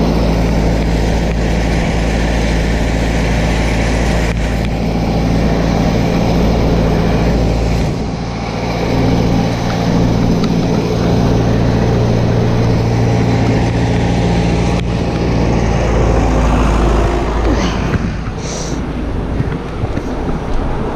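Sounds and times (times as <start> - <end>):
vehicle engine running: 0.0 - 20.9.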